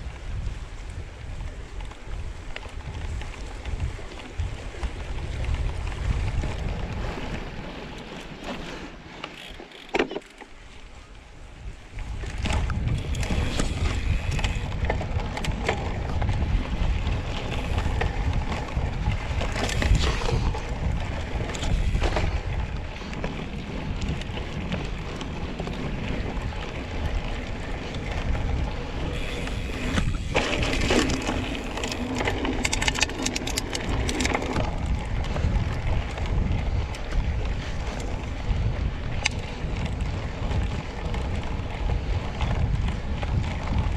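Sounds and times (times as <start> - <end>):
wind rumbling on microphone: 0.0 - 43.9
bike clicks and rattles: 0.7 - 11.0, 11.9 - 43.9
bike tyres on grass: 5.1 - 43.9.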